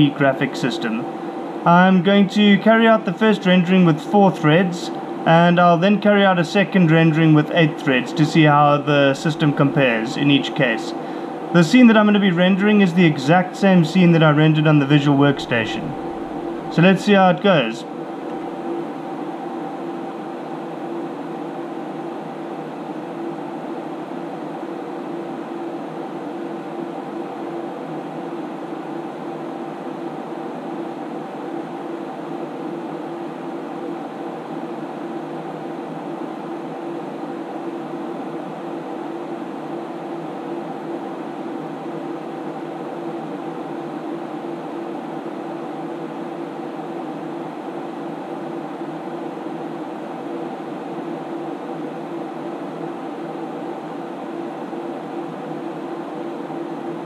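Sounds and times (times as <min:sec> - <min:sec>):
computer cooling fans whirring: 0:00.0 - 0:57.0.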